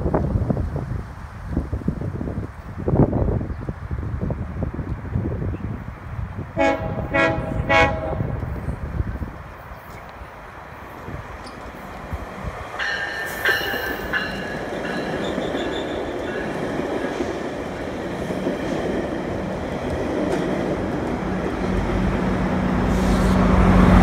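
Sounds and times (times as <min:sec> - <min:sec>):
diesel locomotive engine drone: 0:00.0 - 0:24.0
train coaches rumbling on rails: 0:00.0 - 0:24.0.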